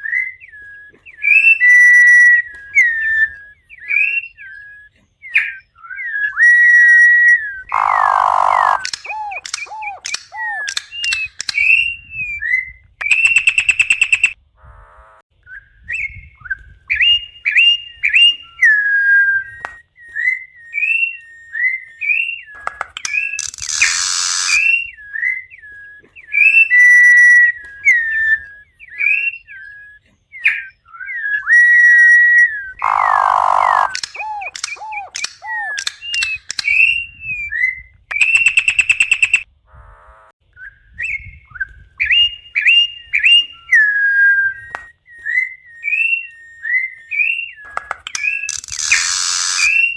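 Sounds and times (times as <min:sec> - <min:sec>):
bird singing whistled notes: 0:00.0 - 0:14.4, 0:15.4 - 0:39.5, 0:40.5 - 0:49.9.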